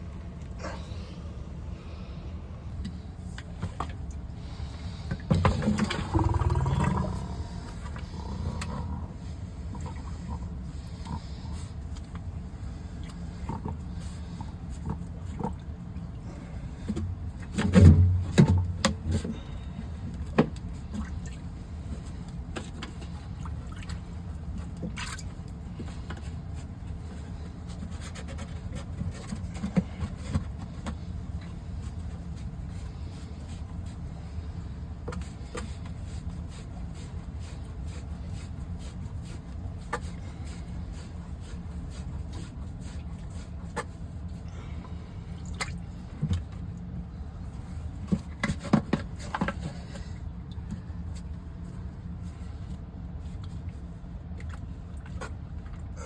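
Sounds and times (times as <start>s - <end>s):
low background hum: 0.0s - 56.0s.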